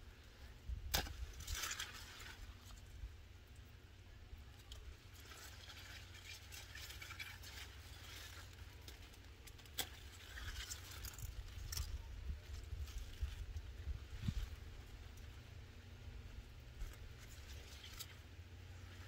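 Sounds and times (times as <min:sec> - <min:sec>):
low steady rumble: 0:00.0 - 0:19.0
leaves rustling and crackling: 0:00.9 - 0:03.6, 0:04.5 - 0:19.0.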